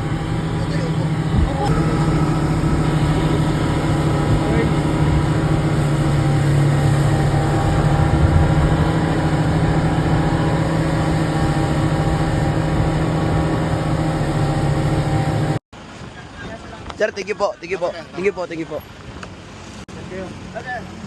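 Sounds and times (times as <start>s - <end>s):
speedboat engine droning: 0.0s - 16.9s, 17.6s - 21.0s.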